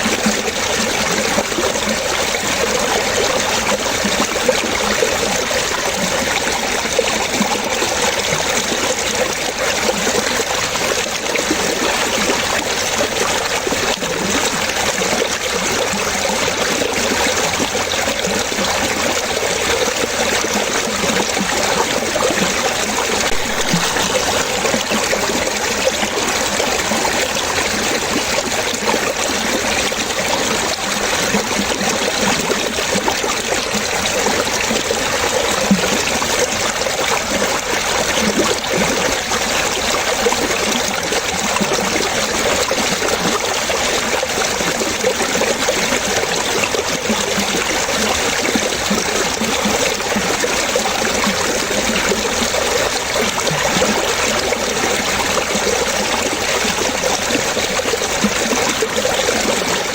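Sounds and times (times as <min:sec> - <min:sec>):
stream water bubbling: 0:00.0 - 0:59.9.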